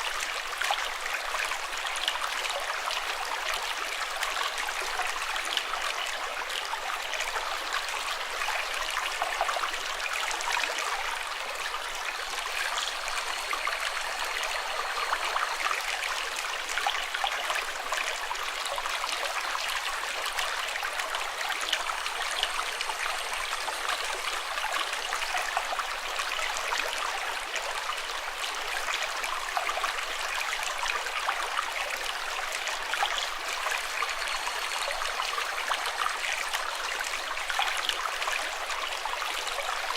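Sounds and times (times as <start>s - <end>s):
running water flowing: 6.6s - 39.8s.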